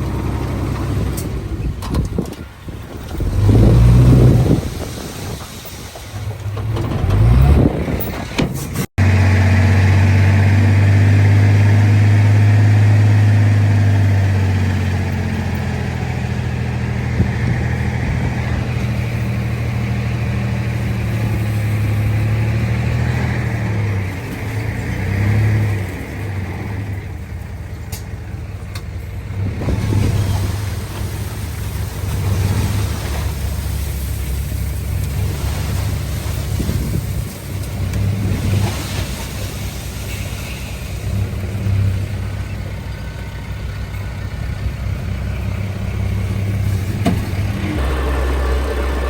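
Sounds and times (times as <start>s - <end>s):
diesel engine droning: 0.0s - 49.0s.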